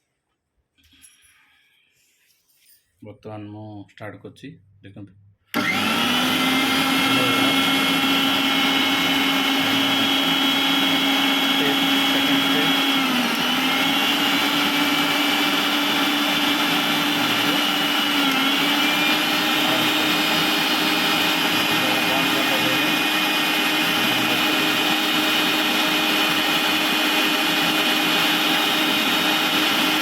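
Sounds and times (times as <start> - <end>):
mixer grinder motor whining: 5.5 - 30.0.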